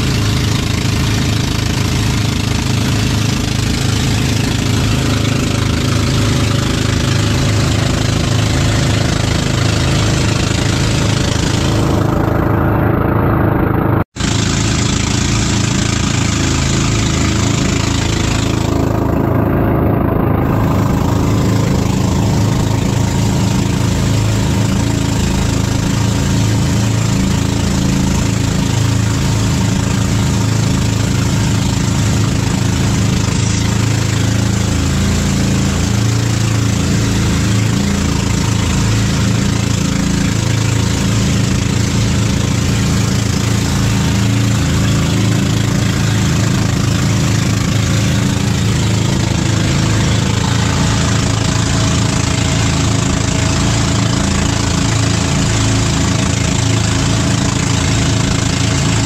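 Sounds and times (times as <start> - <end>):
boat engine running: 0.0 - 59.0
water rushing against hull: 0.0 - 59.0.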